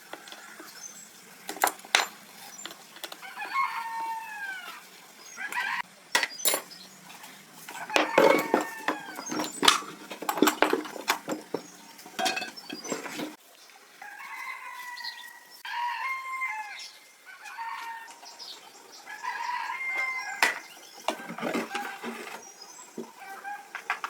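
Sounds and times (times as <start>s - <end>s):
chickens calling: 0.0s - 13.4s, 14.0s - 24.0s.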